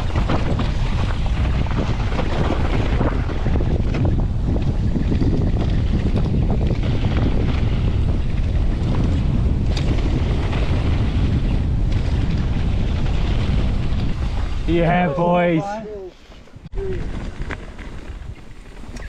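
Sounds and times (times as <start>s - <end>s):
bike tyres rumbling on dirt: 0.0s - 15.6s, 16.2s - 19.0s
wind buffeting microphone: 0.0s - 19.0s.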